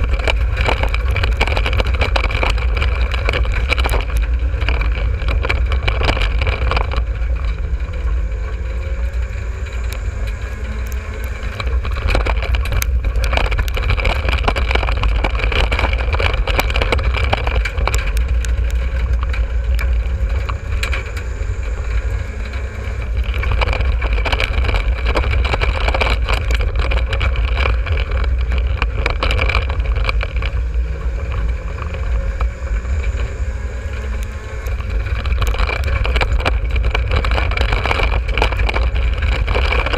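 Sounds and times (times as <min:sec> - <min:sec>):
clunks and rattles from car: 0:00.0 - 0:39.9
race car engine running hard: 0:00.0 - 0:39.9.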